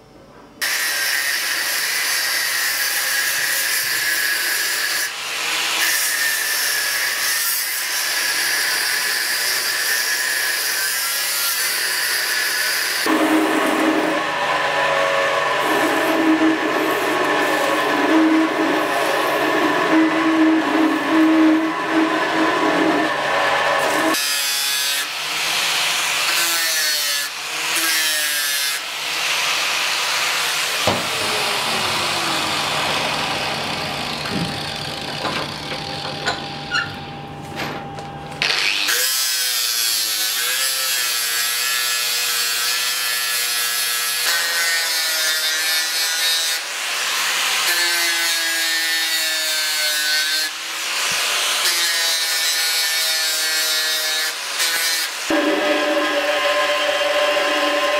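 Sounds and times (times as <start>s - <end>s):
belt grinder on metal: 0.6s - 37.0s, 38.4s - 57.9s
angle grinder on steel: 0.6s - 57.9s.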